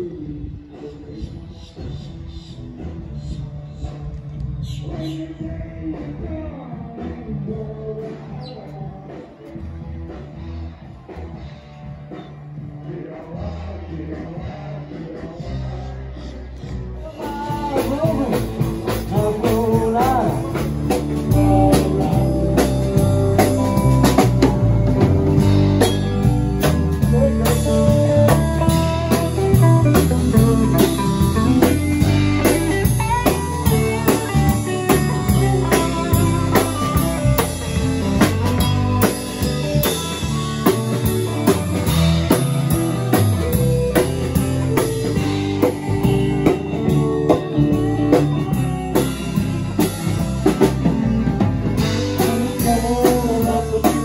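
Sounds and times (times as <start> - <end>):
blues-rock band playing: 0.0 - 54.0.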